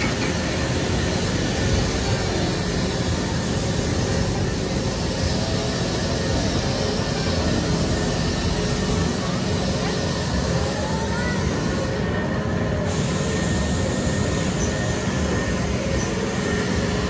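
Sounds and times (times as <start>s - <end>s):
fairground ride rushing noise: 0.0s - 17.0s.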